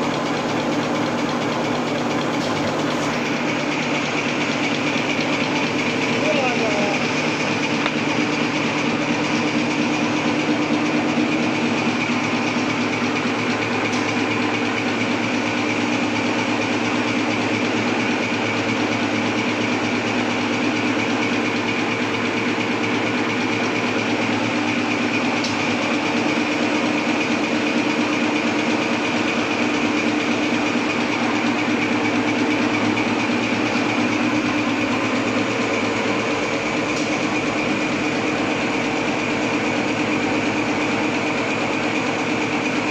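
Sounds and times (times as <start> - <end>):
machine hum and whine: 0.0 - 42.9.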